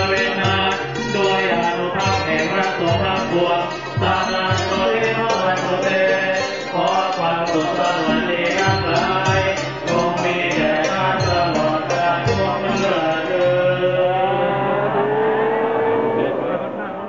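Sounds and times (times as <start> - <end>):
music with singing voices: 0.0 - 17.0.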